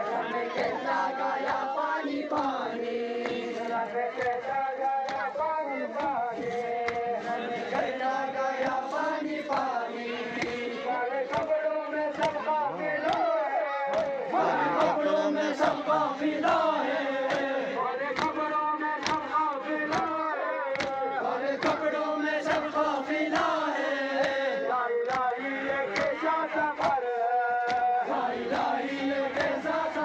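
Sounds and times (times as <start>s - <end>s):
men chanting in unison: 0.0s - 30.0s
rhythmic chest-beating: 0.0s - 30.0s.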